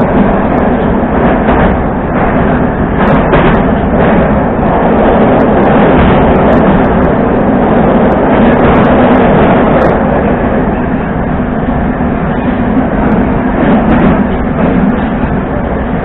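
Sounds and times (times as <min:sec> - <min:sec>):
metro train rumbling on track: 0:00.0 - 0:16.0.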